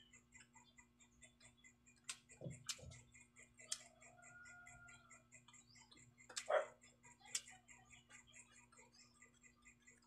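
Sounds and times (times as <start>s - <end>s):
steady fast ticking: 0.0s - 10.0s.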